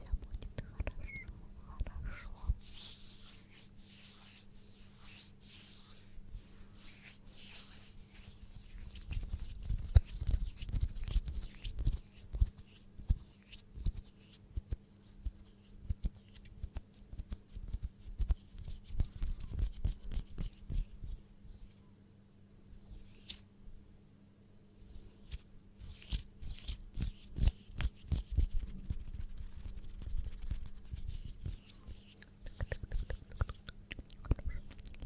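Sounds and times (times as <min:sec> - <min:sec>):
hands rubbing together: 0:00.2 - 0:20.6, 0:25.0 - 0:33.6.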